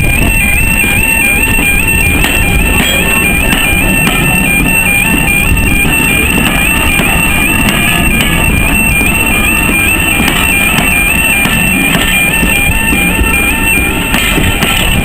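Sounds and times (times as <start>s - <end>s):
level crossing alarm warbling: 0.0s - 15.0s
railway coaches rumbling past: 0.0s - 15.0s.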